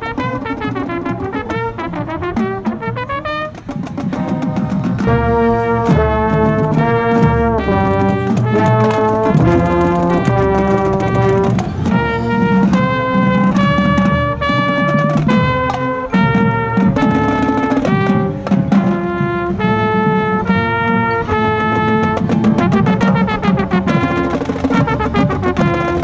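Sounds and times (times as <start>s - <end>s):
brass chords: 0.0s - 26.0s
drum hits: 2.4s - 20.6s, 21.6s - 26.0s.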